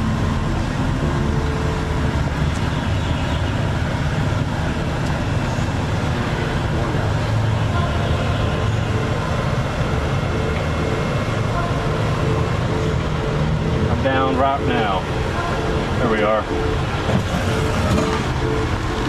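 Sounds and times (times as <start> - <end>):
engine rumble: 0.0 - 19.0
tyre and road noise: 0.0 - 19.0.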